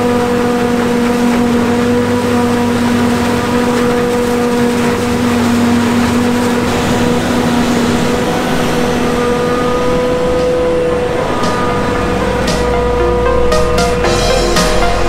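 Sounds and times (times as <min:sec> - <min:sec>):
low machinery hum: 0:00.0 - 0:15.0
tractor engine: 0:00.0 - 0:15.0.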